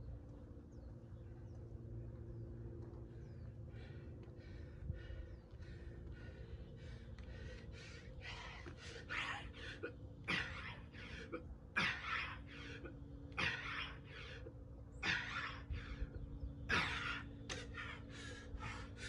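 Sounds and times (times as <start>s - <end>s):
man breathing hard: 3.6s - 19.0s.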